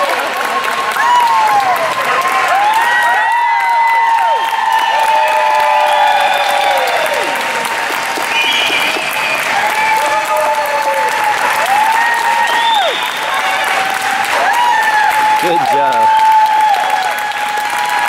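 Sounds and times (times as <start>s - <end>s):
crowd clapping: 0.0s - 18.0s
crowd whooping and cheering: 0.0s - 18.0s.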